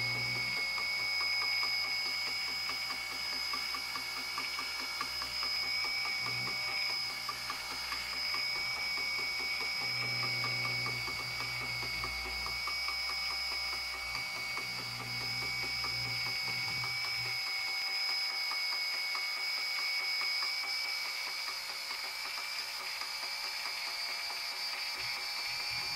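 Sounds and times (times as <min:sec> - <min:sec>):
electric motor whine: 0:00.0 - 0:25.9.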